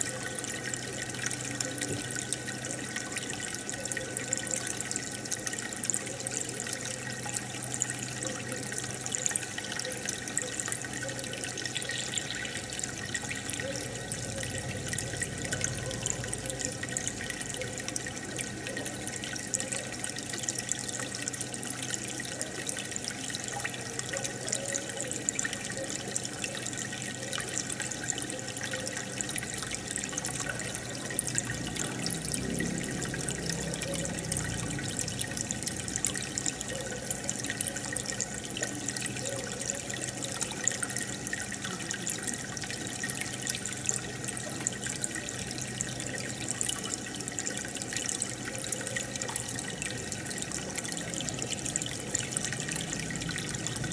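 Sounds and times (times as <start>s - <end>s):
aquarium water bubbling: 0.0s - 53.9s
low steady hum: 0.0s - 53.9s.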